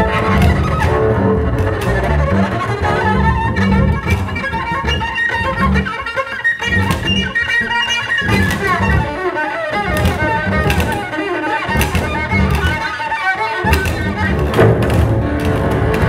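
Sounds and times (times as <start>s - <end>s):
bowed double bass: 0.0s - 16.0s
plucked double bass: 0.0s - 16.0s.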